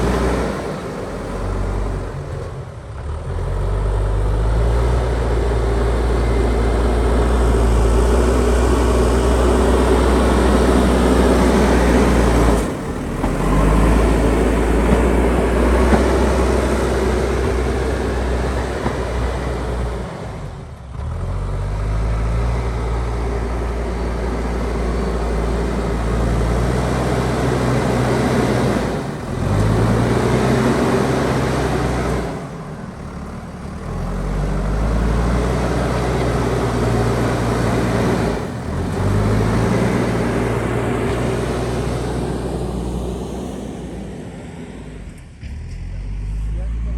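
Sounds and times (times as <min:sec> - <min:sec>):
diesel engine revving under load: 0:00.0 - 0:46.9.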